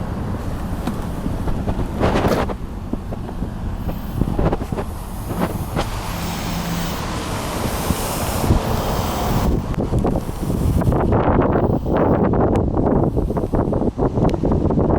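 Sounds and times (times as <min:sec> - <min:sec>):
engine low rumble: 0:00.0 - 0:14.9.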